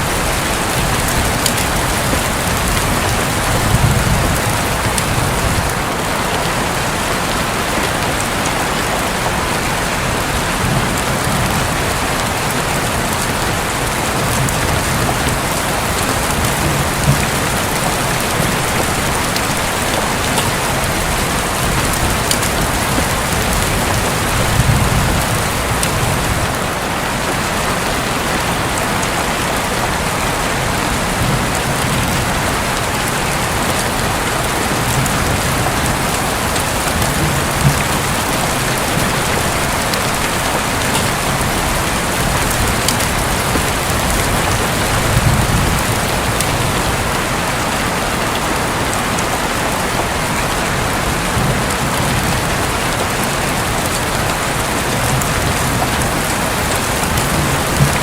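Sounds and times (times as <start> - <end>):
heavy rain drumming on a roof: 0.0 - 58.0.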